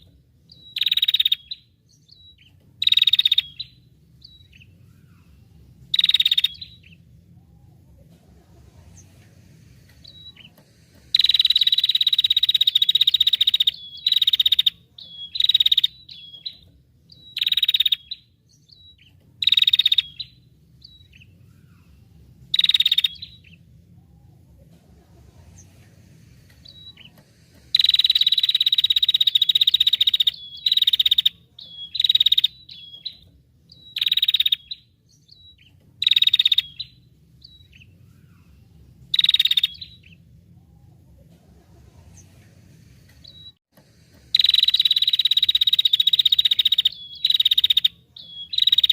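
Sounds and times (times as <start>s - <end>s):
songbird trilling: 0.0s - 7.8s, 10.0s - 21.9s, 22.5s - 24.2s, 26.6s - 40.2s, 44.3s - 48.9s.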